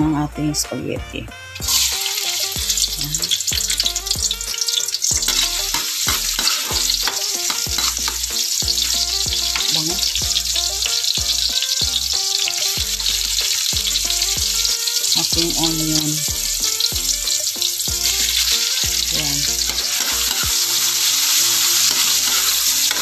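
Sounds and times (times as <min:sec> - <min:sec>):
garlic and onion sizzling in oil: 0:00.4 - 0:23.0.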